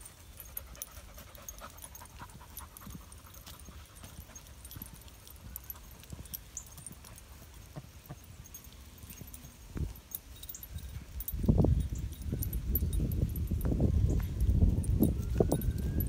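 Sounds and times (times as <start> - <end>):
dogs panting: 0.0 - 13.6.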